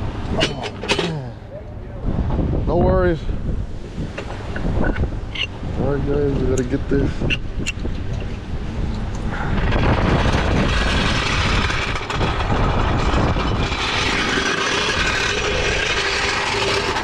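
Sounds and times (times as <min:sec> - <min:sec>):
vehicle noise: 0:00.0 - 0:17.0
wind rumbling on microphone: 0:00.0 - 0:17.0.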